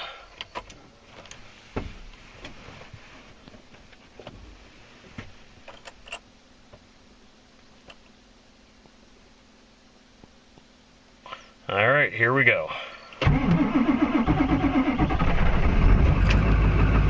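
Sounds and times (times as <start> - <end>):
faint steady hum: 0.0 - 16.6.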